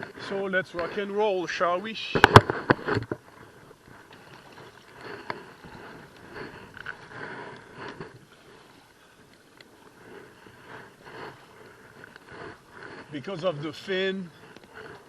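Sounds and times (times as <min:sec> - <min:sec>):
paddle swishing and splashing: 0:00.0 - 0:15.0.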